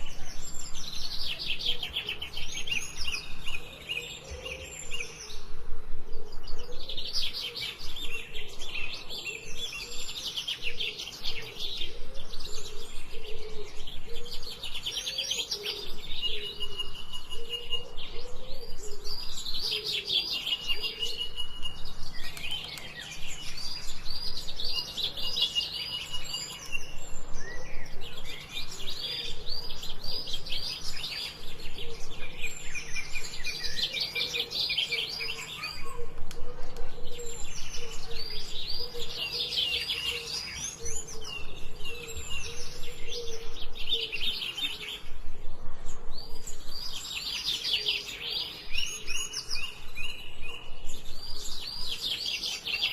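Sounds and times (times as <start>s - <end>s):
songbirds chirping: 0.0s - 52.9s.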